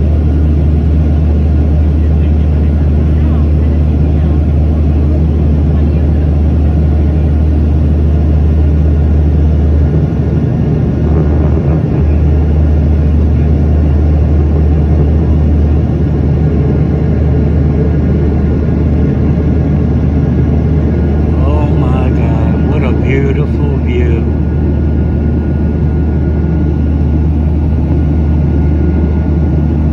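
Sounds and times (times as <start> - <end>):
jet engine rumble in cabin: 0.0 - 29.9.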